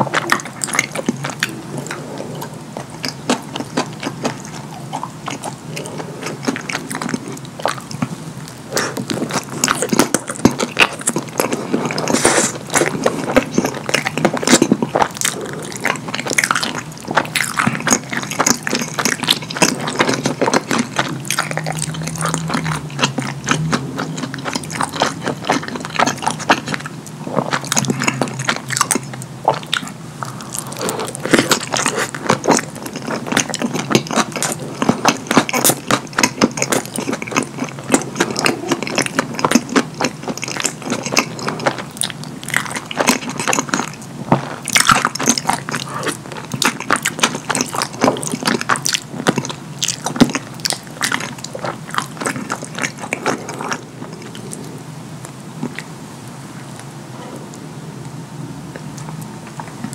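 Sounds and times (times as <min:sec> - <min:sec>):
wet chewing and lip smacking: 0:00.0 - 0:55.9.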